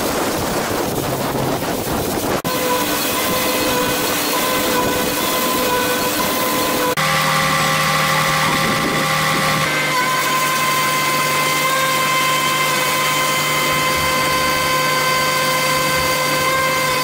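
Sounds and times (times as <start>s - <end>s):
low hum: 0.0s - 16.4s
diesel engine and machinery: 0.0s - 17.0s
machinery whine: 0.0s - 17.0s.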